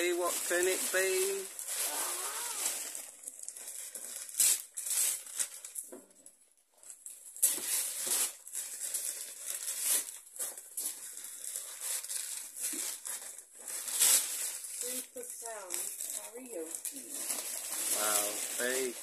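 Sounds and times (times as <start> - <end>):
wrapping paper crinkling and tearing: 0.0 - 19.0.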